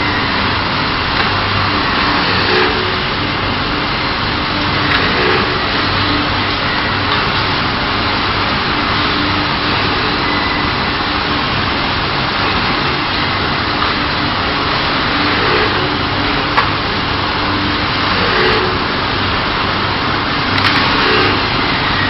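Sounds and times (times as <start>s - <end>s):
drilling machine running: 0.0s - 22.0s.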